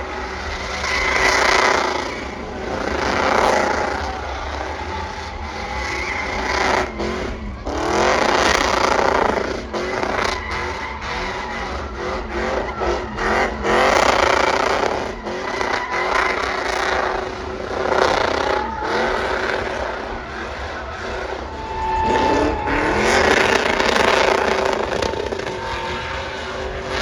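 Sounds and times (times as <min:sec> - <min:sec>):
truck engine revving hard: 0:00.0 - 0:27.0.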